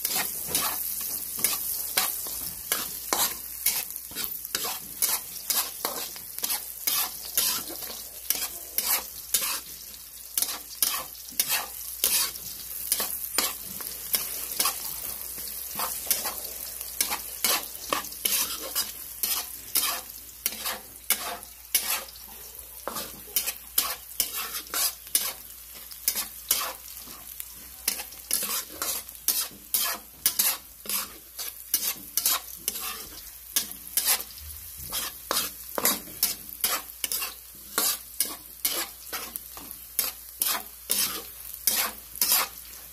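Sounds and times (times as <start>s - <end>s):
food sizzling in a frying pan: 0.0s - 42.9s
utensil scraping a pan: 0.0s - 42.9s.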